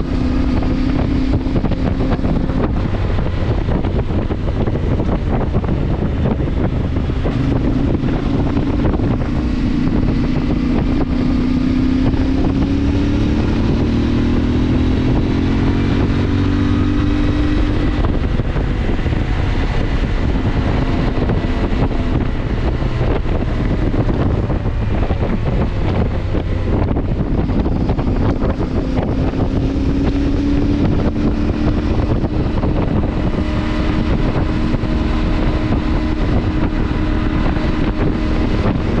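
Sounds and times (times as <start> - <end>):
motorcycle engine running: 0.0 - 39.0
wind noise on microphone: 0.0 - 39.0.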